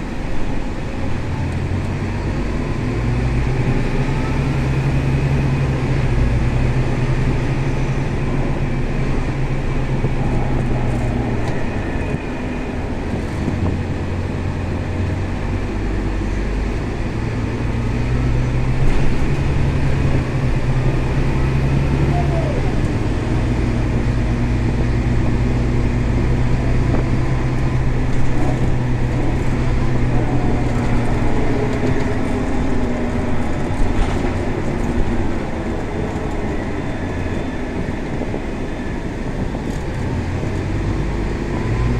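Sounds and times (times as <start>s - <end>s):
bus diesel engine from inside: 0.0s - 41.9s.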